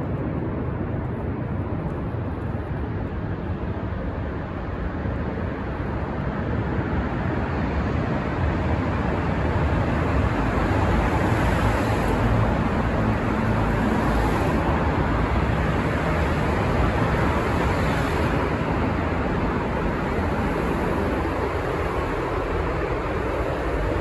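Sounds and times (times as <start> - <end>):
road traffic echoing in tunnel: 0.0 - 24.0.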